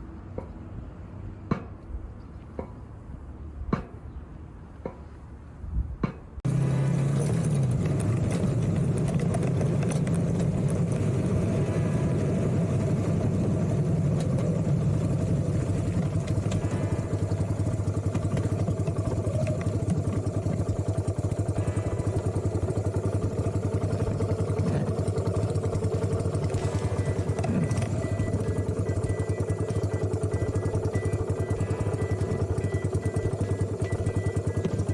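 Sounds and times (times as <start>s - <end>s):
motorcycle engine idling: 6.4s - 34.9s.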